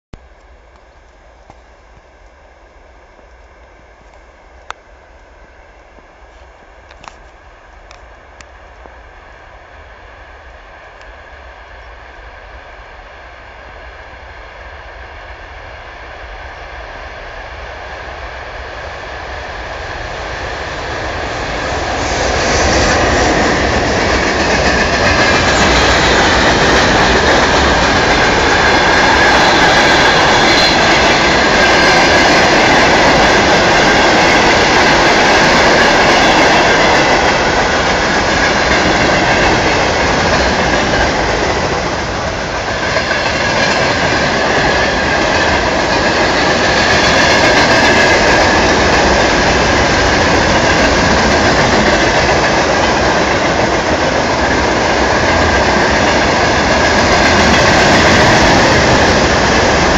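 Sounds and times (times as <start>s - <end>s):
freight train rolling past: 0.2s - 59.9s.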